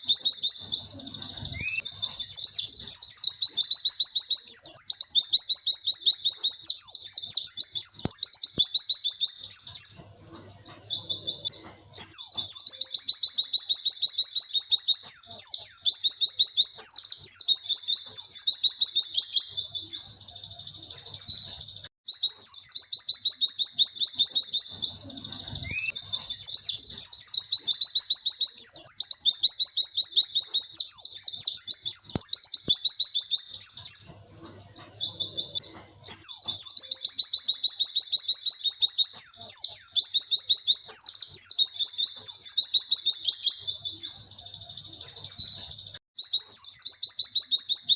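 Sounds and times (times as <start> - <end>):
bird singing high chirps: 0.0 - 47.9.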